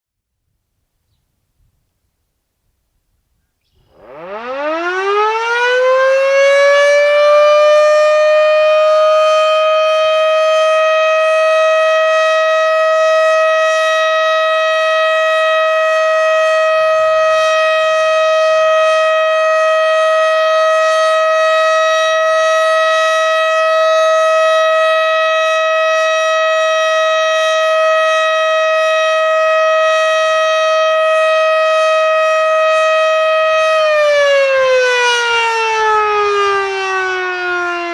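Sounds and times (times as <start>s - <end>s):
warning siren winding up: 3.8s - 37.9s.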